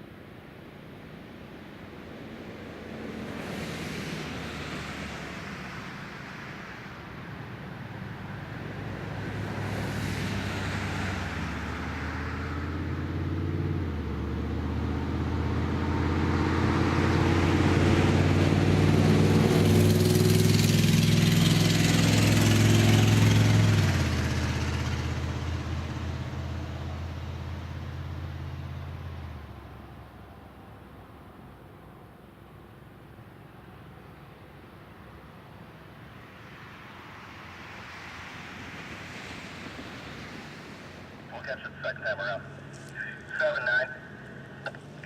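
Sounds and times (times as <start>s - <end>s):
road traffic passing: 0.0s - 45.0s.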